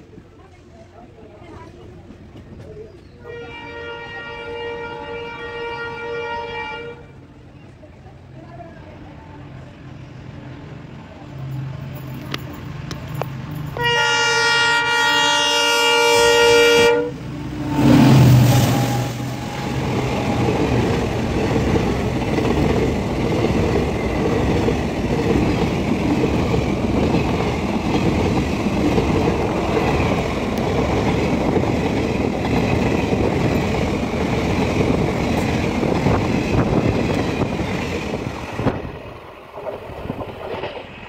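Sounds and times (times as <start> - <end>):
train wheels rumbling on rails: 0.0 - 3.9, 7.2 - 41.0.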